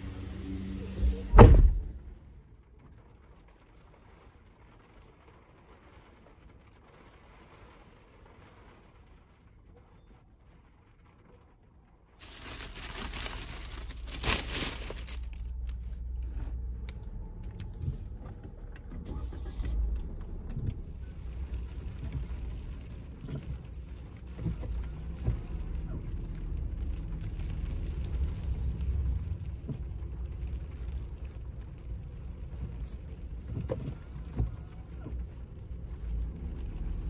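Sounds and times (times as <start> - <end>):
rain and wind on a car: 0.0 - 37.0.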